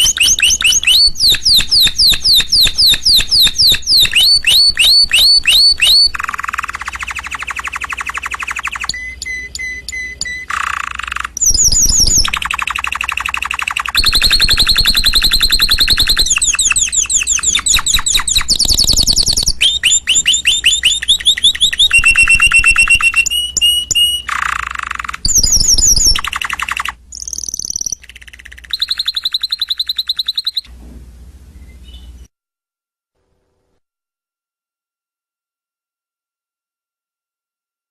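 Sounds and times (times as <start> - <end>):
canary singing rapid trills: 0.0 - 30.7.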